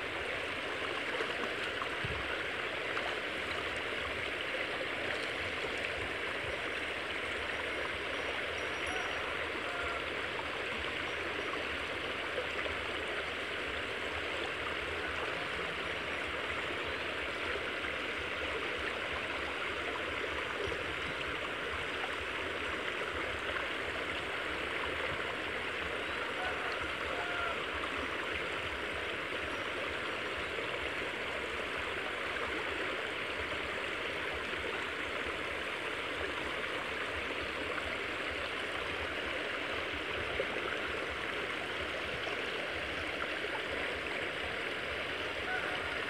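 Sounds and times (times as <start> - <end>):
creek water rushing: 0.0 - 46.0.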